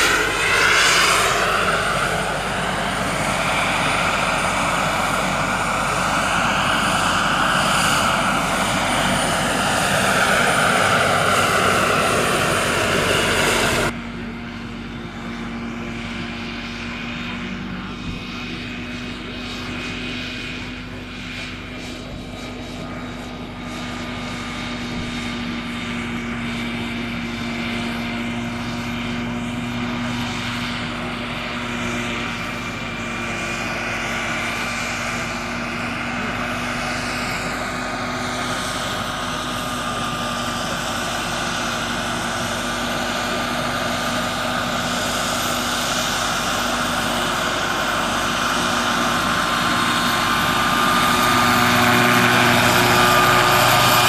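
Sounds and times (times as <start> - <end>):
model helicopter whine: 0.0 - 54.0.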